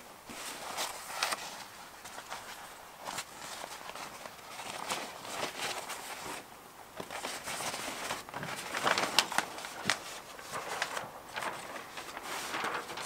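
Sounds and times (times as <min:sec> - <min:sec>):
paper rustling and crackling: 0:00.2 - 0:13.0.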